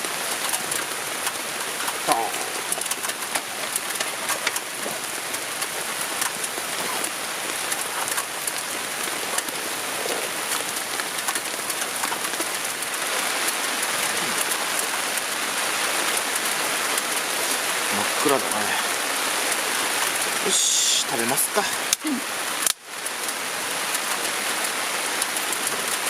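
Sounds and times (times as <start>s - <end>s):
raindrops ticking close by: 0.0s - 26.0s
steady rain: 0.0s - 26.0s.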